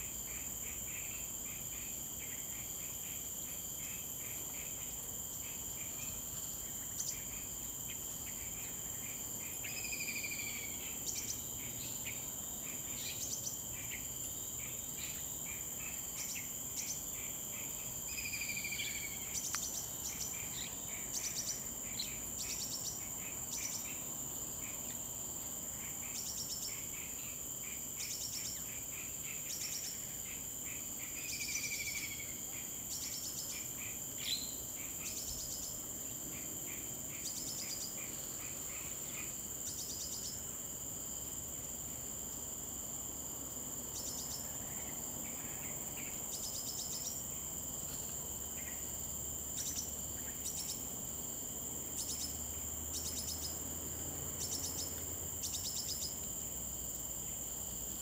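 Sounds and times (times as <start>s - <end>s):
pulsed insect chirps: 0.0s - 40.5s, 43.8s - 56.6s
insects trilling: 0.0s - 58.0s.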